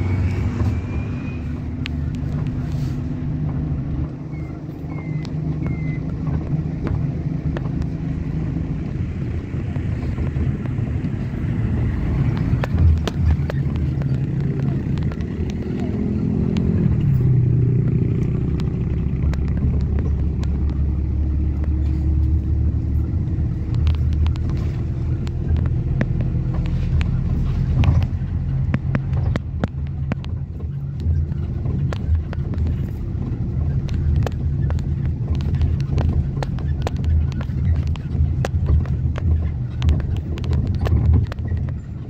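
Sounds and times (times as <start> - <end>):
road noise: 0.0 - 42.0
vehicle engine droning: 0.0 - 42.0
light clicks and rattles: 1.4 - 42.0.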